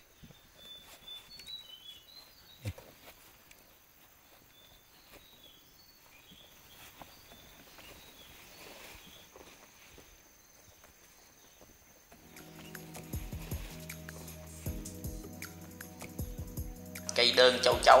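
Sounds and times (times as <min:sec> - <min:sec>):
soft footsteps in undergrowth: 0:00.0 - 0:15.2
rustling through undergrowth: 0:00.0 - 0:16.5
small birds chirping: 0:00.0 - 0:18.0.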